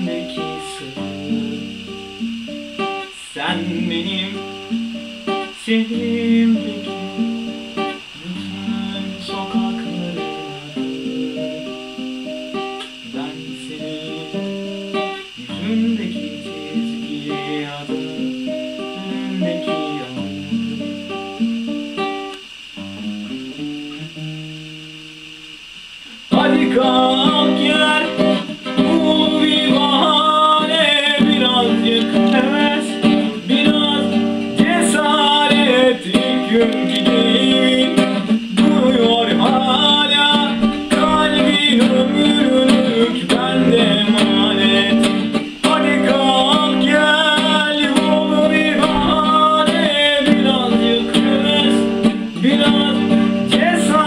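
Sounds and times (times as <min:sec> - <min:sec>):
young man singing: 0:00.0 - 0:02.2, 0:03.0 - 0:21.1, 0:26.2 - 0:54.0
acoustic guitar: 0:00.0 - 0:54.0.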